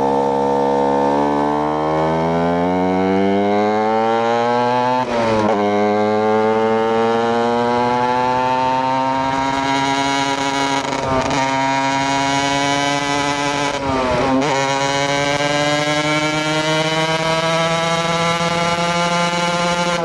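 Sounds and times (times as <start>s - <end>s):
two-stroke motorcycle engine: 0.0s - 20.0s.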